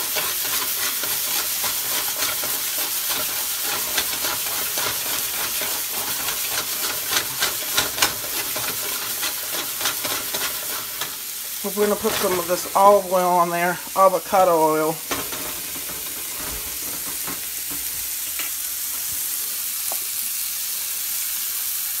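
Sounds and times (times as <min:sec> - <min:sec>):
meat sizzling in a hot pan: 0:00.0 - 0:22.0
oil crackling and popping: 0:00.0 - 0:22.0.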